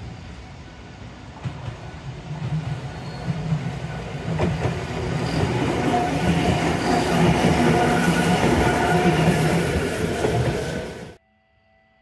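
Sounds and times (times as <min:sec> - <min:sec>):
tram wheels on rails: 0:00.0 - 0:11.2.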